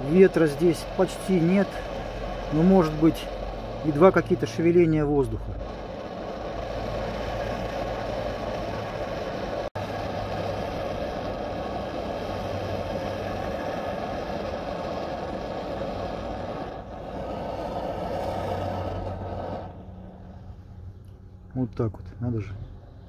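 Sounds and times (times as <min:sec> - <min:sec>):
stove burner roaring: 0:00.0 - 0:21.5, 0:22.3 - 0:23.0.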